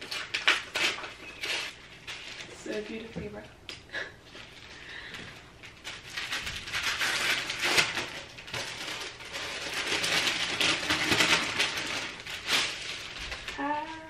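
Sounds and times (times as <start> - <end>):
wrapping paper crinkling: 0.0 - 3.1, 4.2 - 14.0.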